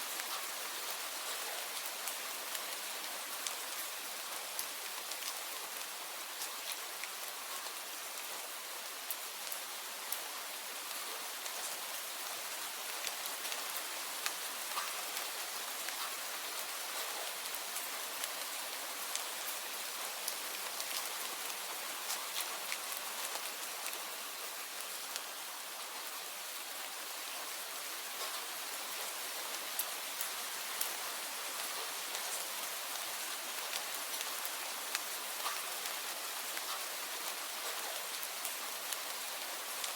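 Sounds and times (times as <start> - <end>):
rain falling: 0.0 - 39.9
raindrops pattering on a surface: 0.1 - 39.9.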